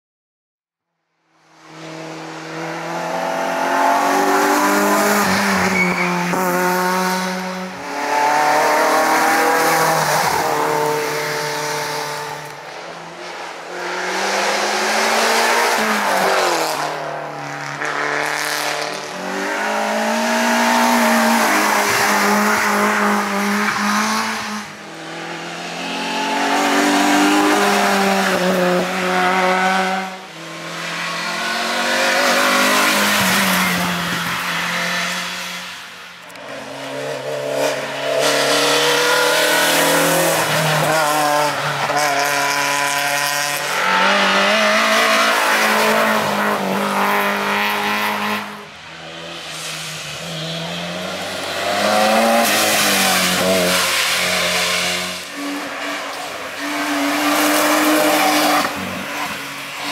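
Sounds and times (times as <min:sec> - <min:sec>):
racing car engine at full throttle: 0:01.3 - 0:59.9.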